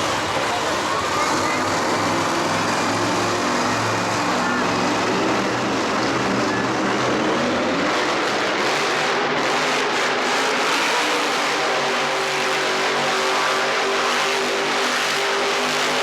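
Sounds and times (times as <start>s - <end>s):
loud vehicle engines roaring: 0.0s - 16.0s.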